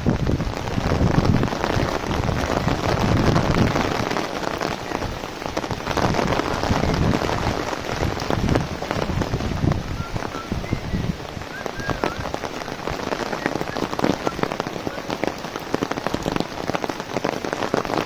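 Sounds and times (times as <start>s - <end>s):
heavy rain drumming on umbrella: 0.0s - 18.0s.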